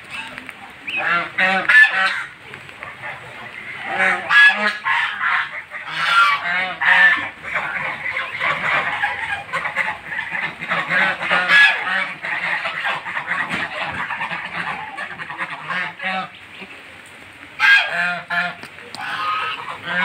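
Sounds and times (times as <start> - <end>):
geese honking: 0.0 - 16.8, 17.6 - 20.0.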